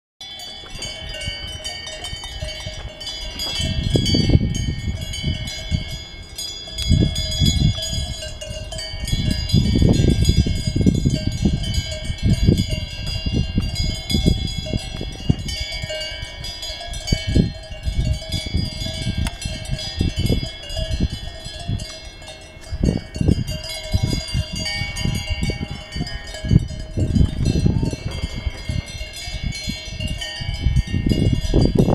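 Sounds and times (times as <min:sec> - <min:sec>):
cowbells jangling: 0:00.2 - 0:31.9
wind buffeting microphone: 0:00.3 - 0:31.9.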